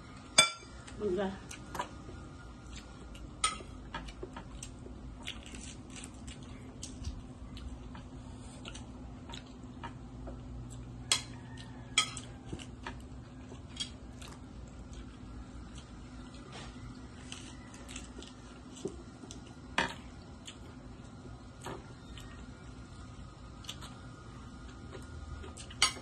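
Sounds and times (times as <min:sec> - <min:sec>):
steady low hum: 0:00.0 - 0:26.0
food being chewed: 0:00.1 - 0:26.0.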